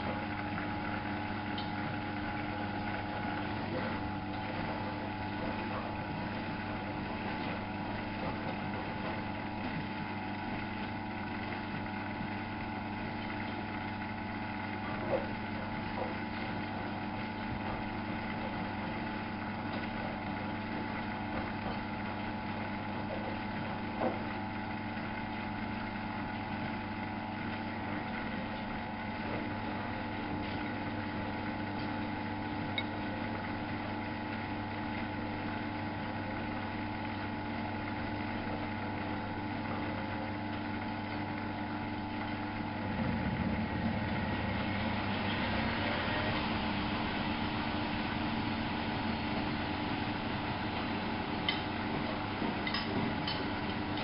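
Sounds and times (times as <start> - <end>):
washing machine humming: 0.0 - 54.0.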